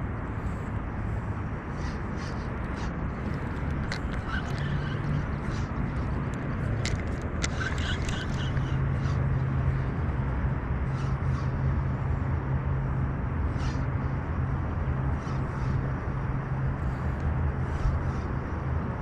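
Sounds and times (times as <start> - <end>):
distant road traffic rumble: 0.0 - 19.0.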